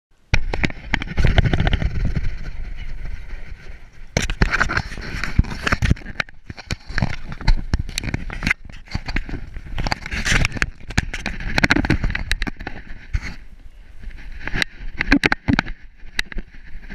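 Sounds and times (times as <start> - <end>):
camera rubbing and scraping: 0.3 - 16.9.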